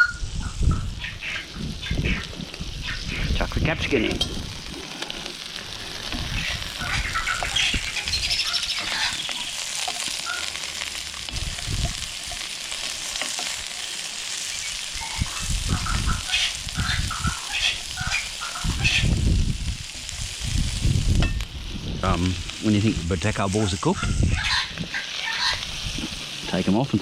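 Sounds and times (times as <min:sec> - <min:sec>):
low rumbling: 0:00.0 - 0:13.1, 0:14.4 - 0:25.0
vegetables sizzling in hot oil: 0:00.0 - 0:27.0.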